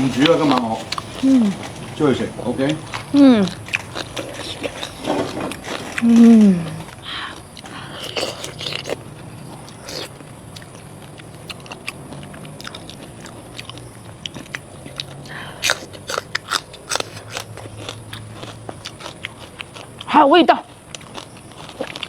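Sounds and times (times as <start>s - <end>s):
wet crunchy chewing: 0.0s - 22.0s.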